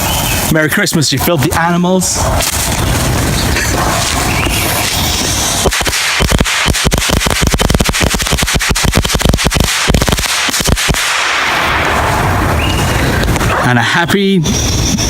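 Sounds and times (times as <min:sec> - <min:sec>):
firecrackers cracking: 0:00.0 - 0:13.9.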